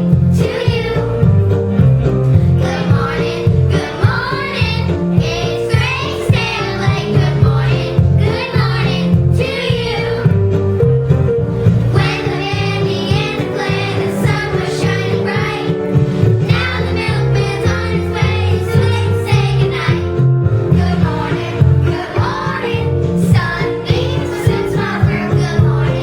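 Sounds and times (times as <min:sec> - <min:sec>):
children singing: 0:00.0 - 0:01.3, 0:02.5 - 0:10.4, 0:11.9 - 0:26.0
instrumental backing track: 0:00.0 - 0:26.0.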